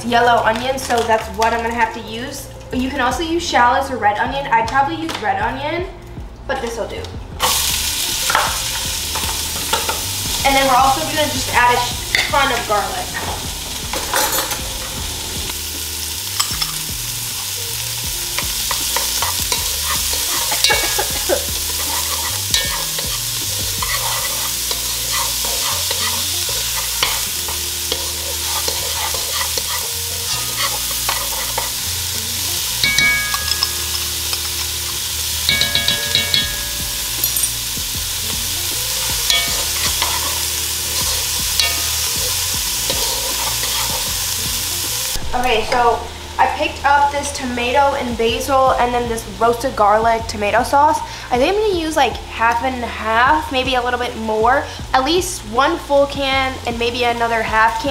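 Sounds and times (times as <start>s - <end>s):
onion sizzling in hot oil: 7.4s - 57.9s.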